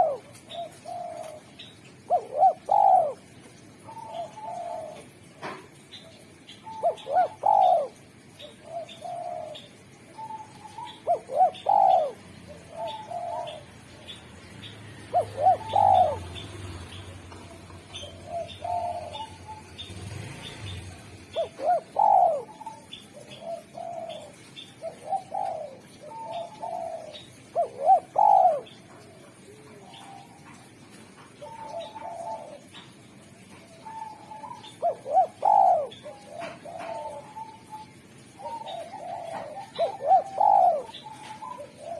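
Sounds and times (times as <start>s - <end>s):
dove cooing: 0.0s - 14.2s, 15.0s - 41.9s.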